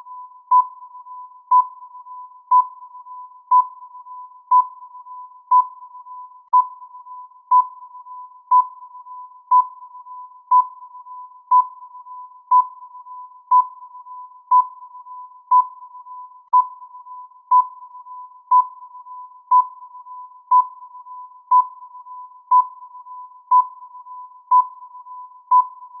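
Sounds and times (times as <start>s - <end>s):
faint steady tone: 0.0s - 26.0s.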